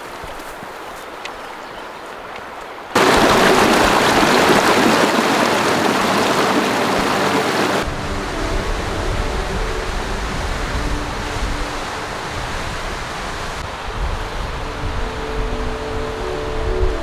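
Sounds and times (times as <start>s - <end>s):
creek rushing over rocks: 0.0s - 14.8s.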